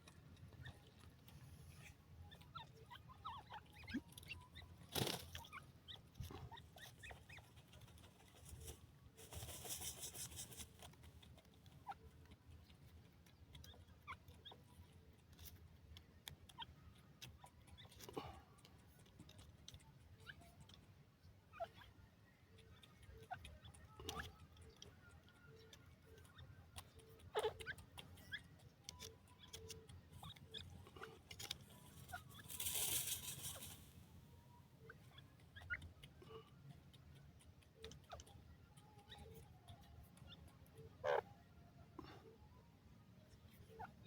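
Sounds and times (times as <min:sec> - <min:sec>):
chick pattering and ticking: 0:00.0 - 0:44.0.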